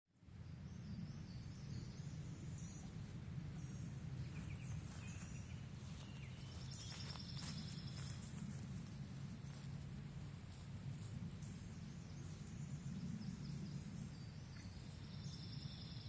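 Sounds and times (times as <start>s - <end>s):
steady low rumble: 0.2s - 16.0s
birds chirping: 0.5s - 16.0s.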